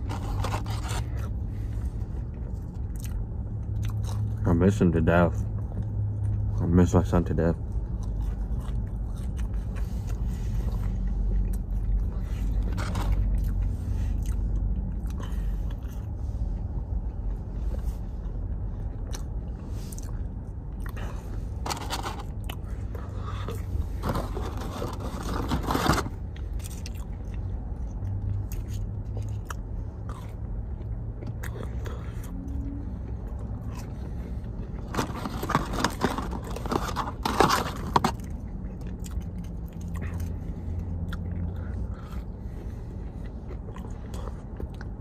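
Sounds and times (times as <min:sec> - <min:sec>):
person chewing crunchy food: 0:00.0 - 0:04.4, 0:07.7 - 0:45.0
steady low hum: 0:00.0 - 0:45.0.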